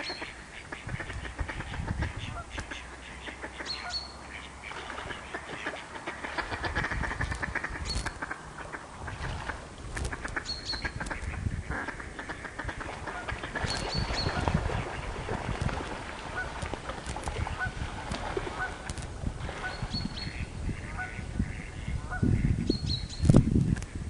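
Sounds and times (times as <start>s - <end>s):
waterfowl rasping quacks: 0.0s - 22.6s.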